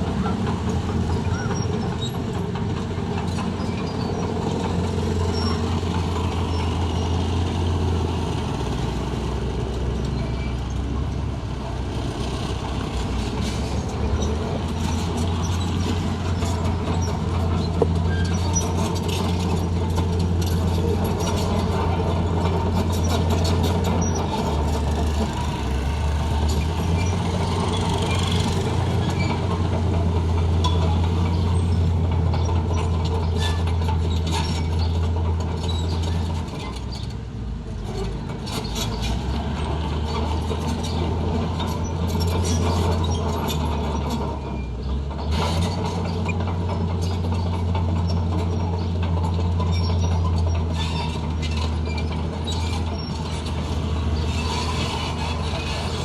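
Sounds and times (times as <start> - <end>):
bulldozer diesel engine: 0.0 - 56.0
steel tracks clanking and squeaking: 0.0 - 56.0.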